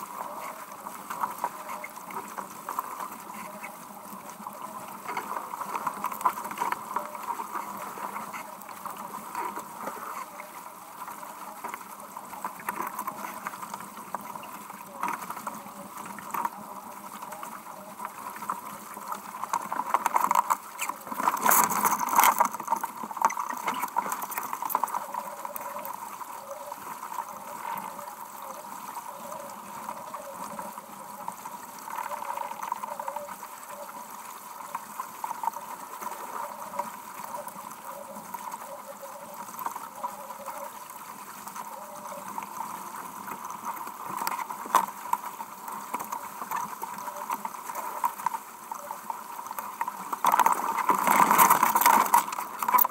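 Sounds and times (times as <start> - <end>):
water rushing along boat hull: 0.0 - 52.9.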